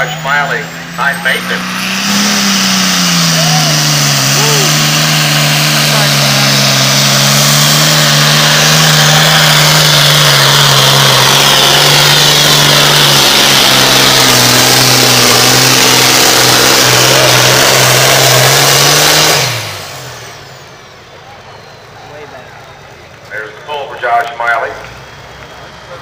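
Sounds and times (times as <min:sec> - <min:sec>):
diesel engine at full throttle: 0:00.0 - 0:26.0.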